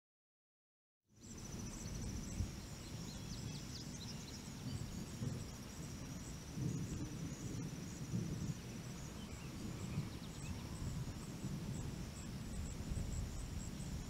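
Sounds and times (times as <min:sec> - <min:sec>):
insect chirps: 0:01.1 - 0:14.0
storm rumble: 0:01.2 - 0:14.0.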